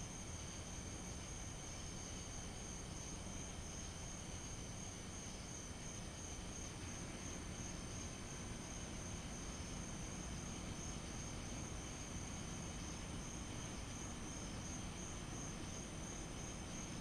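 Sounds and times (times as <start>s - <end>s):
crickets chirping: 0.0s - 17.0s
faint low hiss: 0.0s - 17.0s.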